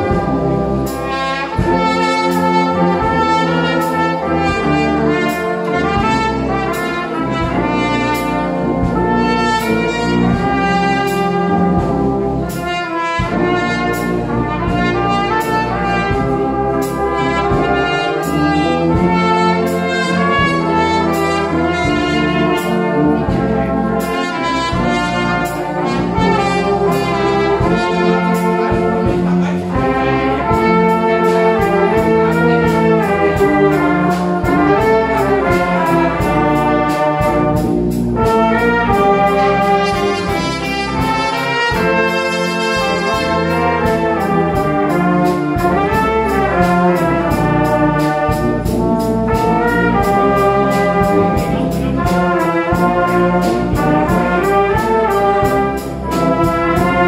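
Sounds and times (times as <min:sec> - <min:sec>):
brass band playing: 0:00.0 - 0:57.0
solo trumpet: 0:00.0 - 0:57.0
steady drum beat: 0:00.0 - 0:57.0.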